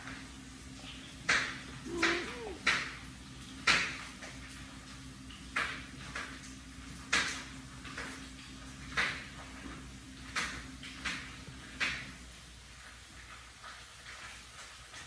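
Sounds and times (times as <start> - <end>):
faint steady hum: 0.0 - 13.4.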